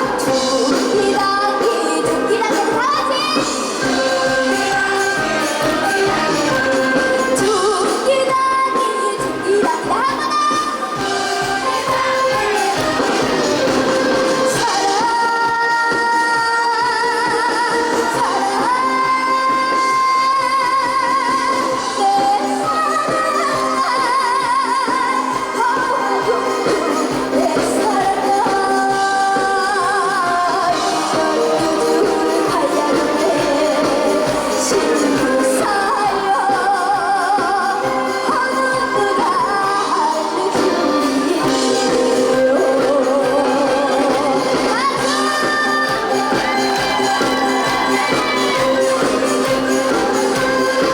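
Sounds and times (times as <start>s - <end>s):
girl singing with vibrato: 0.0s - 50.9s
musical accompaniment: 0.0s - 50.9s.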